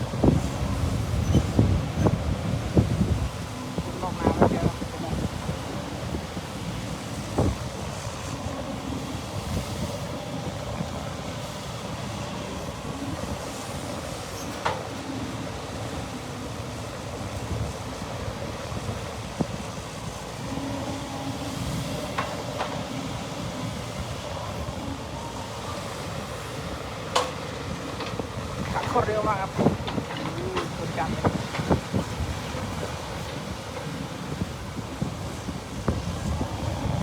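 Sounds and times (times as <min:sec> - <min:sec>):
dump truck engine running: 0:00.0 - 0:37.0.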